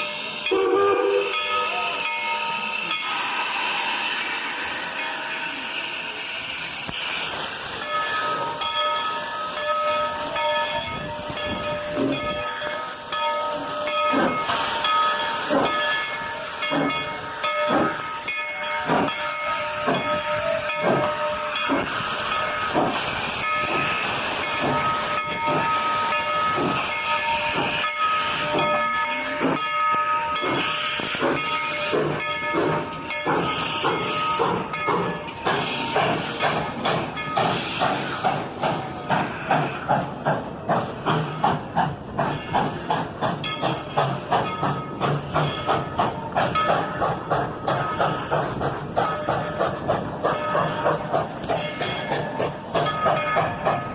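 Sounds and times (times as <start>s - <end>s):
hiss of steam: 0.0s - 53.9s
steam locomotive exhaust chuffs: 0.0s - 53.9s.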